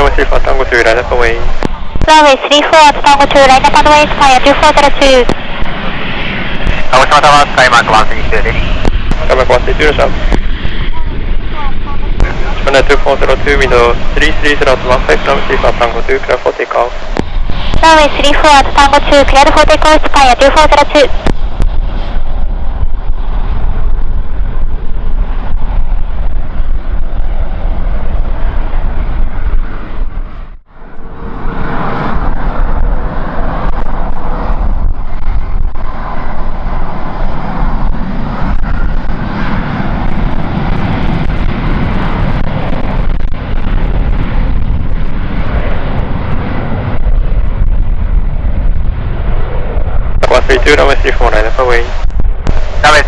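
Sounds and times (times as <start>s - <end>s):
jet engines at takeoff power: 0.0s - 53.0s
wind rumbling on microphone: 0.0s - 53.0s.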